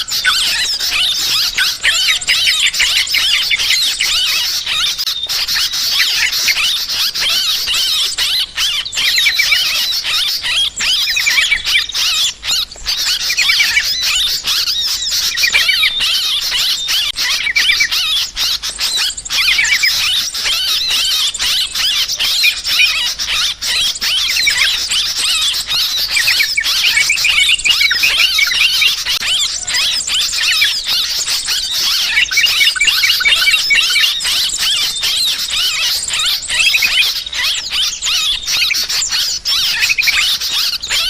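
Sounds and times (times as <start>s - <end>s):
birds chattering and trilling: 0.0s - 41.0s.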